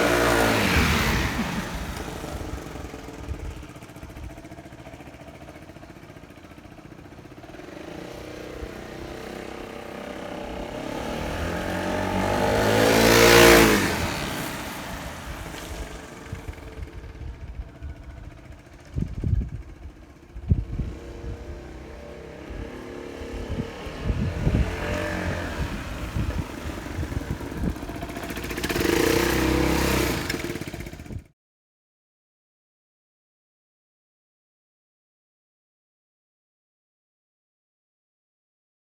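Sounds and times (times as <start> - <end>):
scooter engine revving: 0.0 - 31.3.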